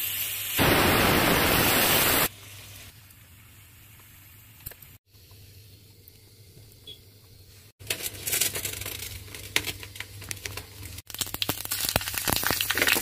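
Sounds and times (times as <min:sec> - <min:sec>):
pressure cooker crackling and hissing: 0:00.0 - 0:13.0.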